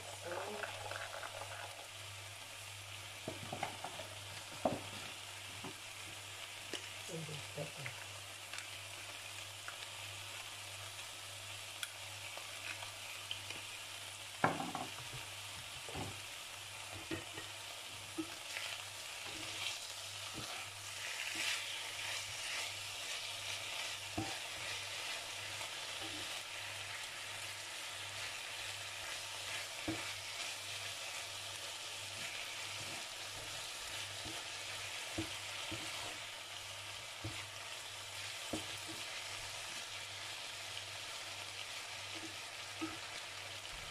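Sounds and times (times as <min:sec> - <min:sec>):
chicken sizzling in frying pan: 0:00.0 - 0:43.9.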